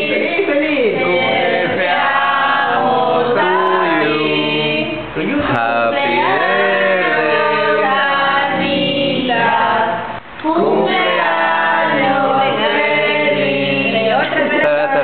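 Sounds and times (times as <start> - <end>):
group singing without instruments: 0.0 - 15.0.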